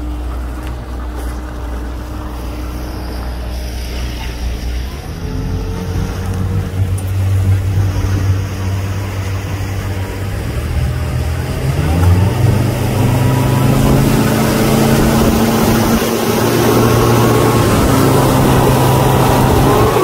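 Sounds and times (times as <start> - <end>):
boat motor droning: 0.0 - 20.0.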